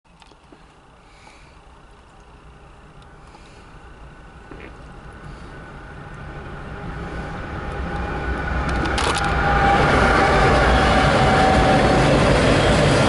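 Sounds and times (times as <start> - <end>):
diesel locomotive engine: 0.1 - 13.0
train rolling rumble: 0.1 - 13.0.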